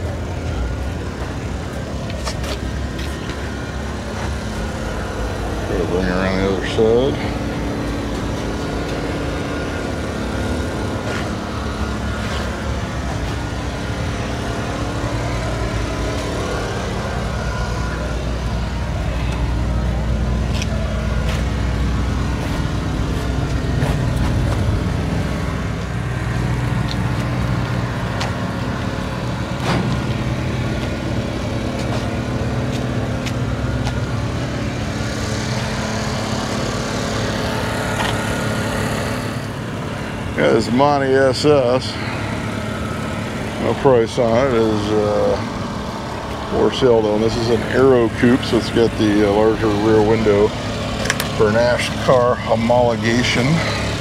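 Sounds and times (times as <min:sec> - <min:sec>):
vehicle engines rumbling: 0:00.0 - 0:54.0.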